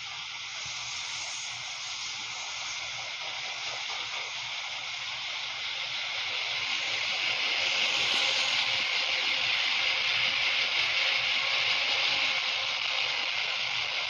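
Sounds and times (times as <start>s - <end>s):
train wheels hissing on rail: 0.0s - 14.0s.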